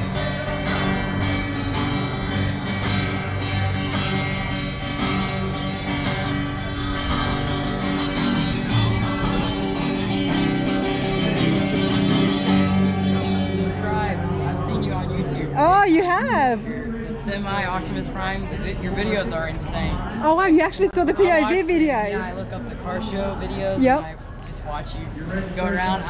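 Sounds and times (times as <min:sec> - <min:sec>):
acoustic-electric guitar strummed: 0:00.0 - 0:24.3.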